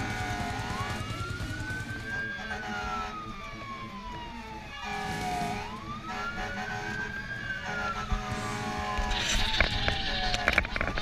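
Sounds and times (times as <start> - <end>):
siren wailing: 0.0 - 11.0
truck engine running: 0.0 - 11.0.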